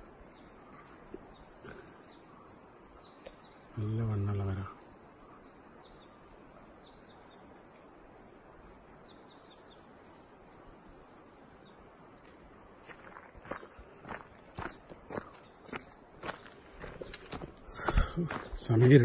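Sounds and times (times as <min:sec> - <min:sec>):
faint forest hiss: 0:00.0 - 0:19.0.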